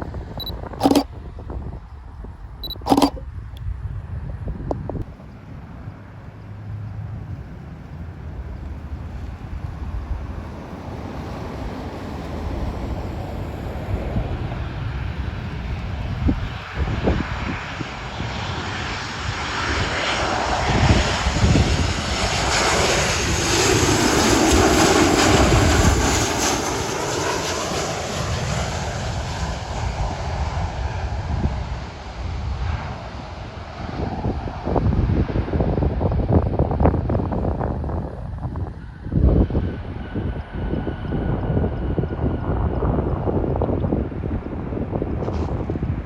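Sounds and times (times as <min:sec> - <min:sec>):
jet airliner engines passing: 0:00.0 - 0:46.0
wind rumble on microphone: 0:00.0 - 0:46.0.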